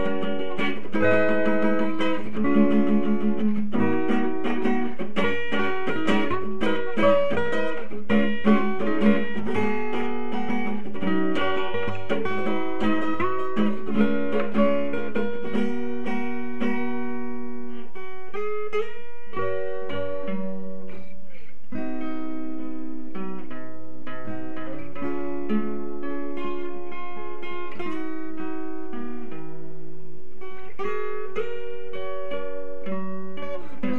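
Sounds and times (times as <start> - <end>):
acoustic guitar picking: 0.0 - 33.9.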